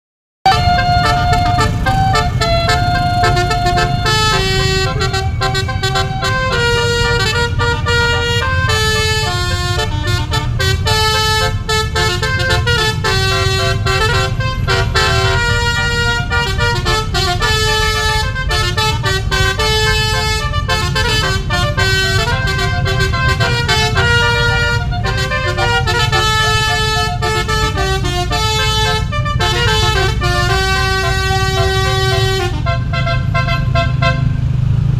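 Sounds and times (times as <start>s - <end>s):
air horn playing a tune: 0.4s - 34.4s
vehicle rumble: 0.4s - 34.9s.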